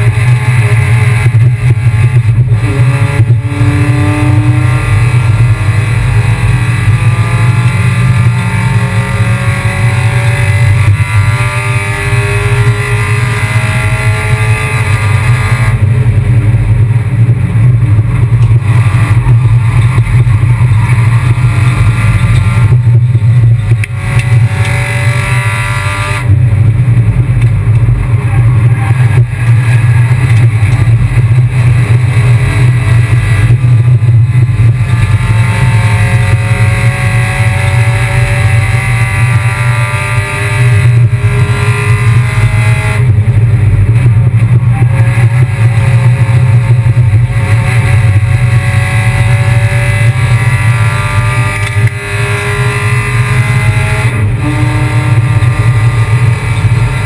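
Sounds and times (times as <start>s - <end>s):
loud steady drone: 0.0s - 57.0s
race car engine accelerating: 0.0s - 57.0s.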